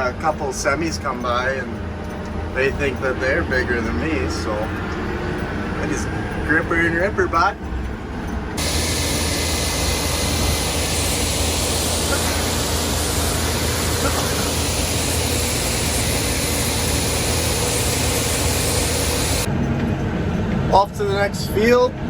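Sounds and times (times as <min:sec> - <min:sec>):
tractor engine running: 0:00.0 - 0:21.7
wind and road noise: 0:00.0 - 0:22.0.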